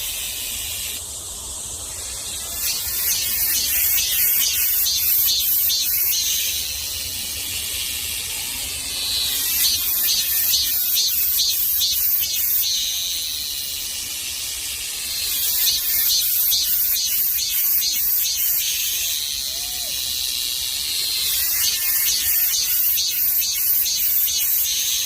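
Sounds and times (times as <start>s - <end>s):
cicada singing: 0.0s - 25.0s.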